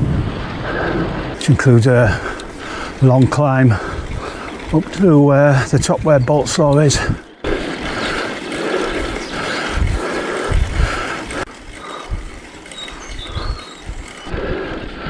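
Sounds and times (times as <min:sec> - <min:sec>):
wind on microphone: 0:00.0 - 0:15.0
bike tyre and drivetrain noise: 0:00.6 - 0:15.0.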